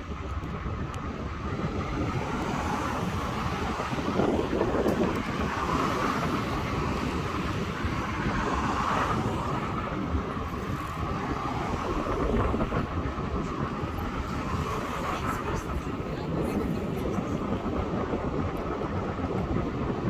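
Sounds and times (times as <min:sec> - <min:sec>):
wind rush and rolling noise: 0:00.0 - 0:20.0.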